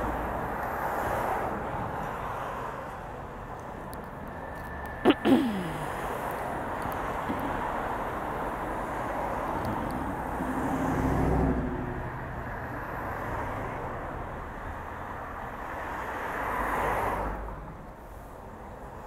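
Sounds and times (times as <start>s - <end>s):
cars driving past: 0.0s - 19.0s.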